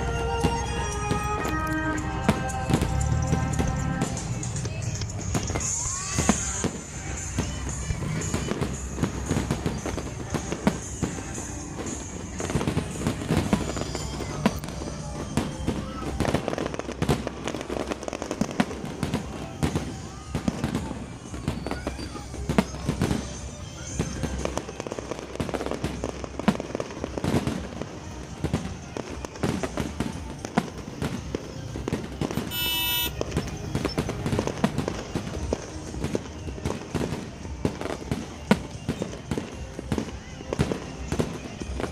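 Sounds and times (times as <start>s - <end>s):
fireworks bangs and crackles: 0.0s - 41.9s
music: 0.0s - 41.9s.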